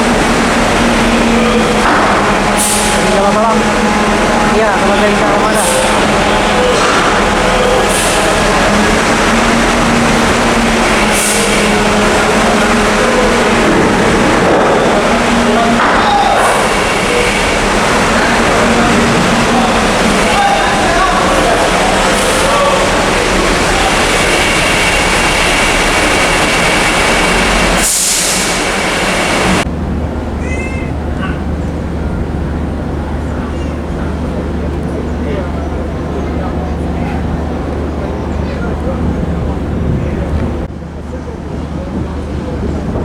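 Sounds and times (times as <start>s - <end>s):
steady hum: 0.0s - 40.7s
loud engine drone: 0.0s - 43.0s.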